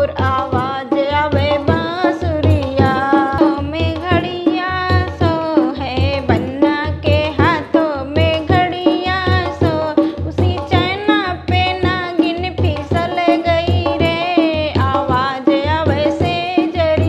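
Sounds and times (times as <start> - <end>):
hand drum beat: 0.0 - 17.0
woman singing folk song: 0.0 - 17.0.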